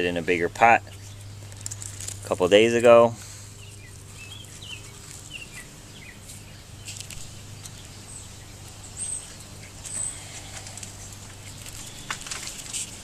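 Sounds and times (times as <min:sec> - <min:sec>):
leaves rustling: 0:00.9 - 0:13.0.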